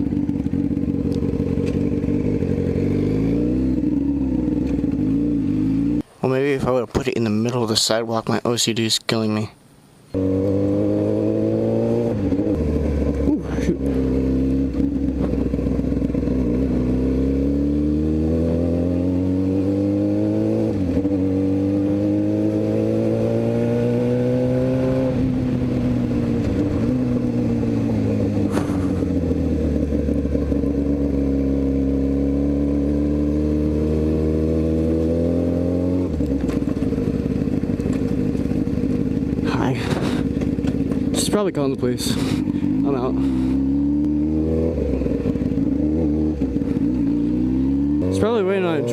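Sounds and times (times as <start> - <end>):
motorcycle engine accelerating: 0.0 - 6.2, 10.1 - 48.9.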